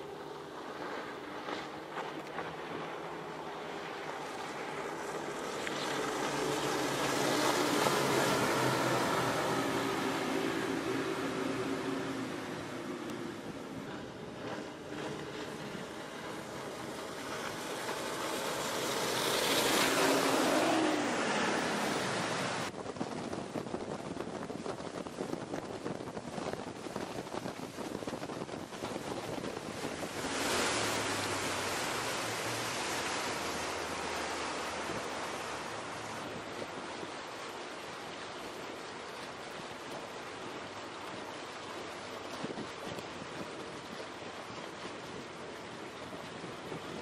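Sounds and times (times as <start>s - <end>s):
hull wash and spray: 0.0s - 47.0s
outboard motors passing: 0.0s - 47.0s.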